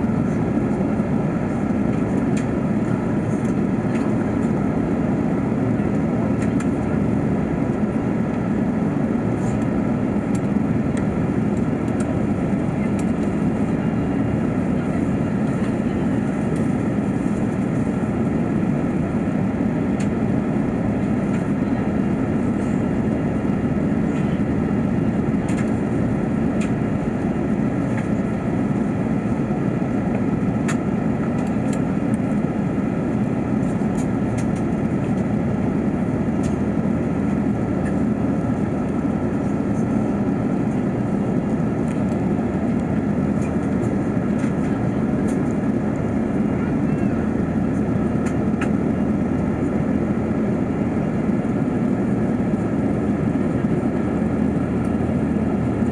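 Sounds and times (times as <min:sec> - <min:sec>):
airplane cabin drone: 0:00.0 - 0:55.9.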